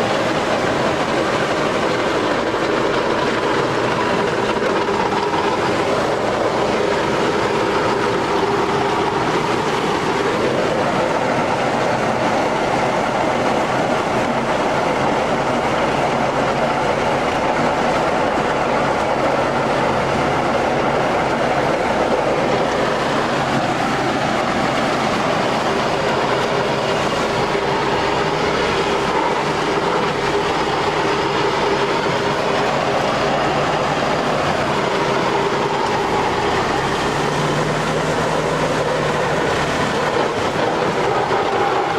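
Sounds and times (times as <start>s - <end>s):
road roller running: 0.0s - 41.9s.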